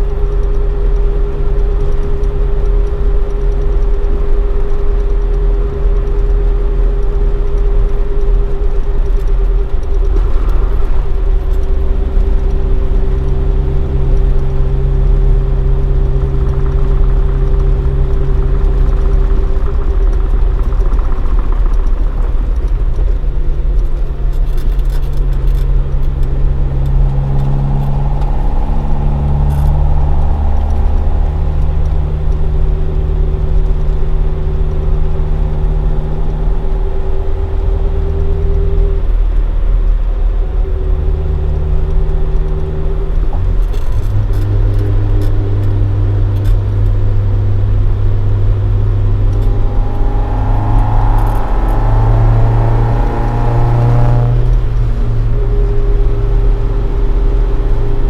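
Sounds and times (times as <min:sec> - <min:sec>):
car engine cruising: 0:00.0 - 0:58.0.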